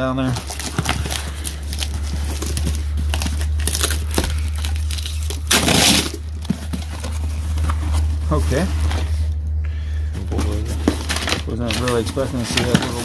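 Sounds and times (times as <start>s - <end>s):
loud crinkling rustle: 0.0s - 9.4s, 10.3s - 13.0s
low hum: 0.0s - 13.0s.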